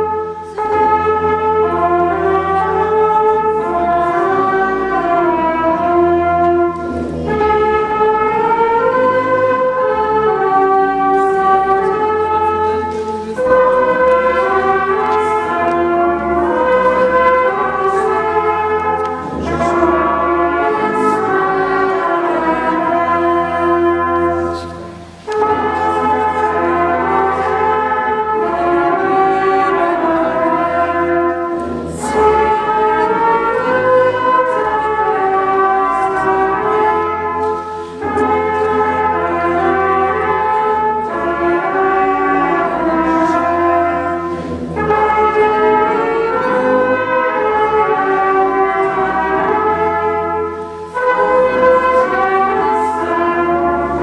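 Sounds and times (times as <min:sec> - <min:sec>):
brass ensemble playing chords: 0:00.0 - 0:54.0.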